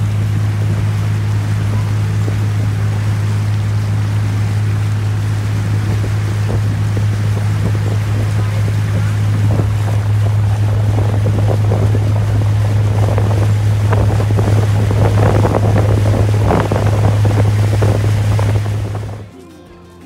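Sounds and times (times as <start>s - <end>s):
rushing water: 0.0s - 19.3s
wind buffeting microphone: 0.0s - 19.3s
boat engine droning: 0.0s - 20.0s.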